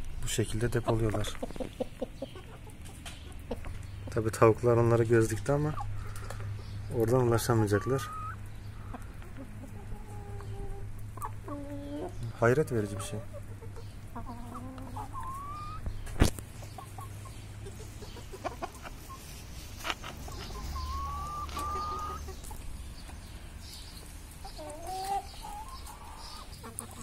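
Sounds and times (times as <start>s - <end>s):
hens clucking: 0.2s - 27.0s.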